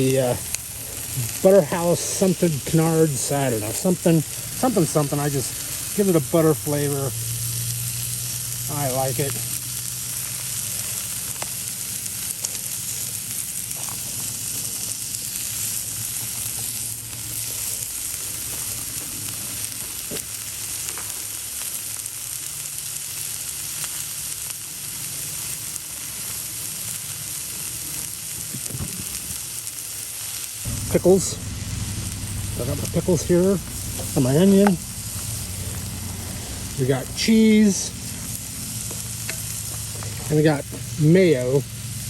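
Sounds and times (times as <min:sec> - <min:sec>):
food frying with sizzle: 0:00.0 - 0:42.0.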